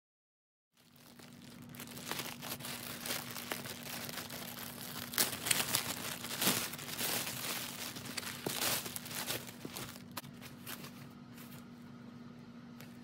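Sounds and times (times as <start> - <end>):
plastic bag crinkling: 0.8 - 11.6.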